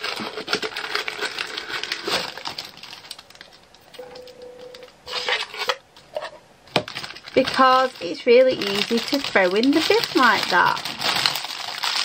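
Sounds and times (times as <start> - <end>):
plastic bags crinkling: 0.0 - 5.8, 6.7 - 12.0.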